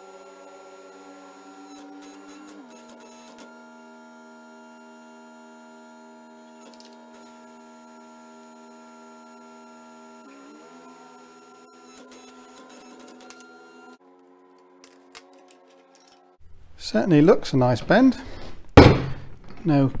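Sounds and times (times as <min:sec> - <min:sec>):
hydraulic pump motor humming: 0:00.0 - 0:16.2.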